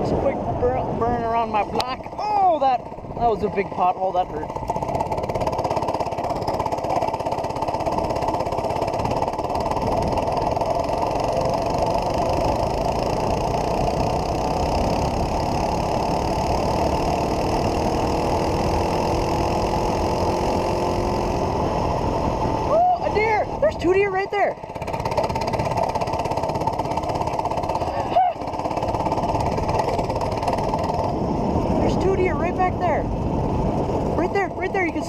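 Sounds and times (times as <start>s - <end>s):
mini bike engine buzzing: 1.3s - 35.0s.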